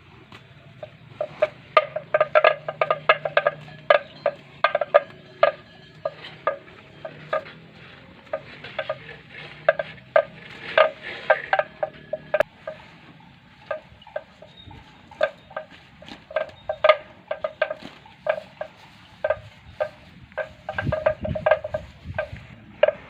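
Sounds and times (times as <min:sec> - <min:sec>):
cow munching grass: 0:00.0 - 0:23.0.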